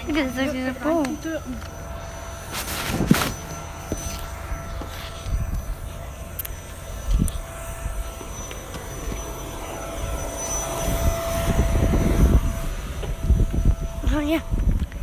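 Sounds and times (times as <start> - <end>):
engine drone with whine: 0.0 - 15.0.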